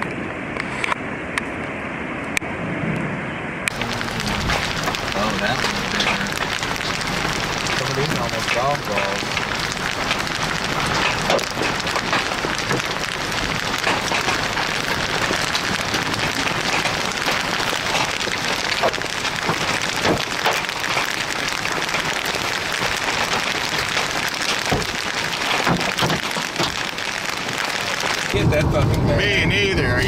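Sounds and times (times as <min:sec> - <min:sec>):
hailstones clattering on hard surfaces: 0:03.7 - 0:28.4.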